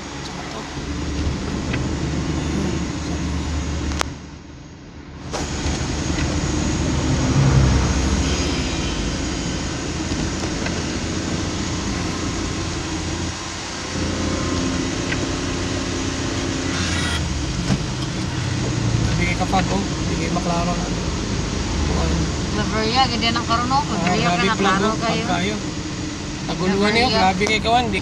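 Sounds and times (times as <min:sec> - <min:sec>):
rain and tyres on wet road: 0:00.0 - 0:28.0
truck passing close: 0:00.0 - 0:28.0
vehicle engine running: 0:00.0 - 0:28.0.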